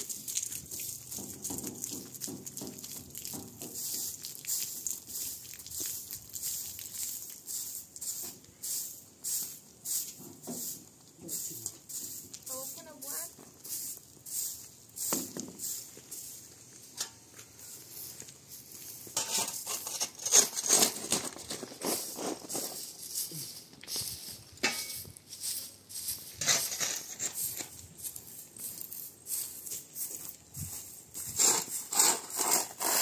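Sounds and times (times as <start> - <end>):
rustling and scraping strokes: 0.4 - 33.0.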